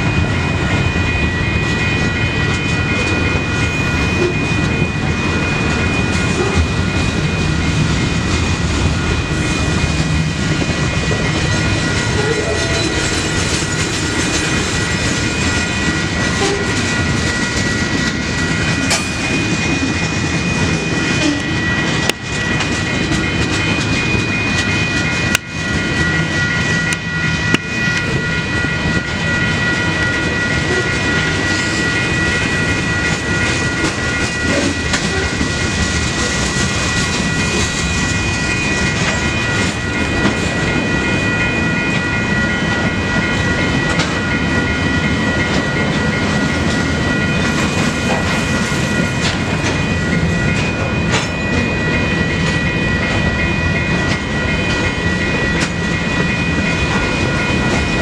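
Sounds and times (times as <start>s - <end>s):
crossing bells ringing: 0.0s - 58.0s
train wheels on rails: 0.0s - 58.0s.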